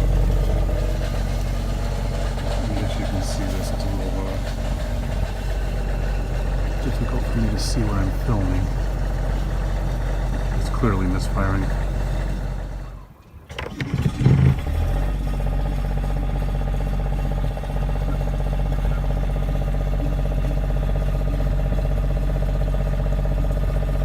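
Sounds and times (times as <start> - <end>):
diesel generator running: 0.0 - 24.0.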